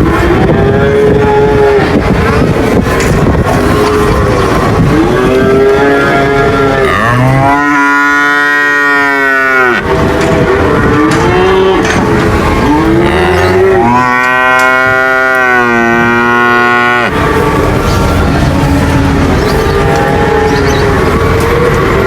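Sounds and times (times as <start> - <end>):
cattle mooing: 0.0 - 22.0
noisy background: 0.0 - 22.0.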